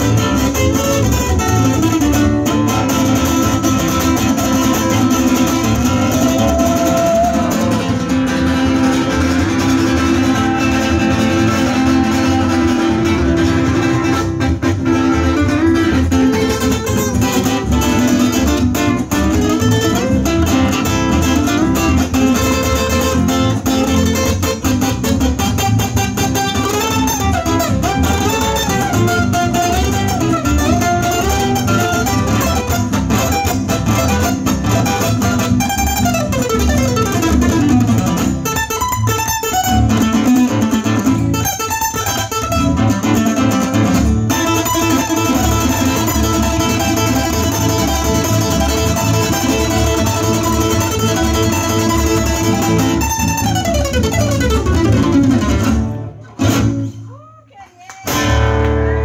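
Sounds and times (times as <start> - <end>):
acoustic guitars playing: 0.0 - 57.2, 58.0 - 59.0.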